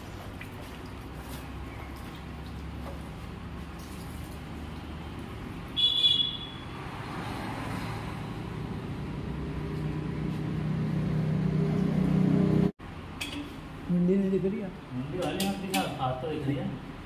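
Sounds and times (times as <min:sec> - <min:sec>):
vehicle engine humming: 0:00.0 - 0:13.8.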